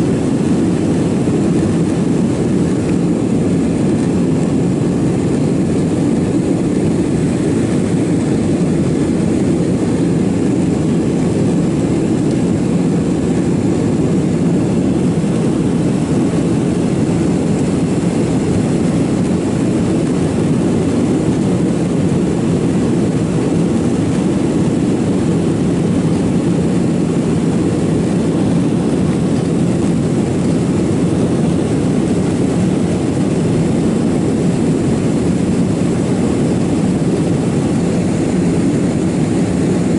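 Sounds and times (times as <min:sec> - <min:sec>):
jet engines at climb thrust: 0:00.0 - 0:39.9.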